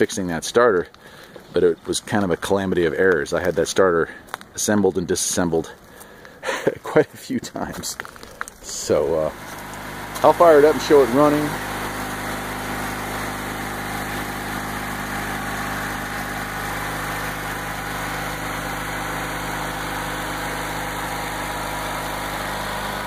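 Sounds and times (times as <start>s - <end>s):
garden tractor engine running: 0.0s - 23.0s.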